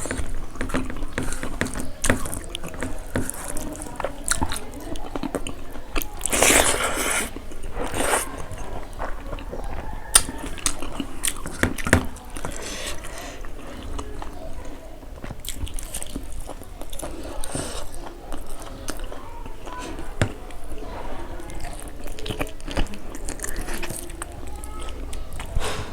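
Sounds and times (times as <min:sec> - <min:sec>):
person chewing food: 0:00.0 - 0:25.9.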